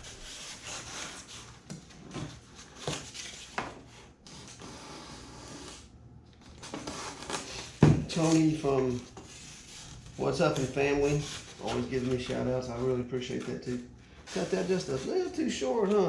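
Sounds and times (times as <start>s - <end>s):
styrofoam rubbing and scraping: 0.0s - 5.8s, 6.6s - 12.5s, 14.3s - 15.5s.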